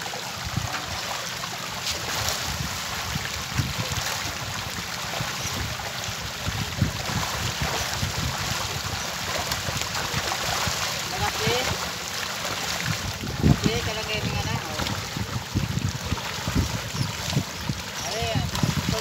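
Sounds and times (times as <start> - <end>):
fish splashing at water surface: 0.0 - 19.0
wind buffeting microphone: 2.1 - 11.8, 12.7 - 19.0.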